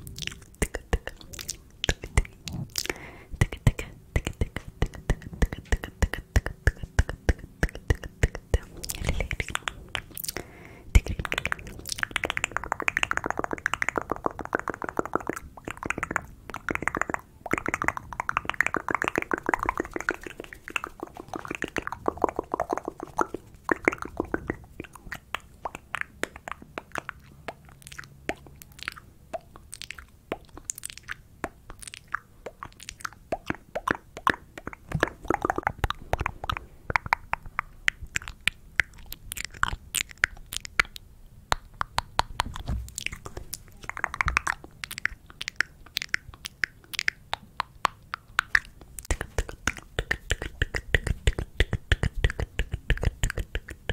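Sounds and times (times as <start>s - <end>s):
wet mouth clicks and smacks: 0.0s - 53.9s.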